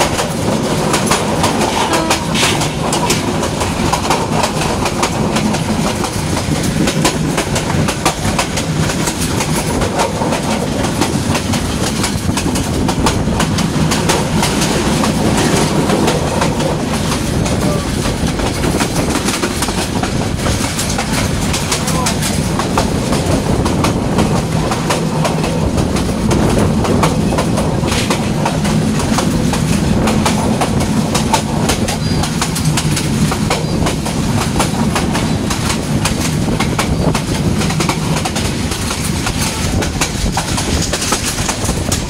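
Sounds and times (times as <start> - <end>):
train rumble: 0.0 - 42.0
wheels clacking over rail joints: 0.0 - 42.0.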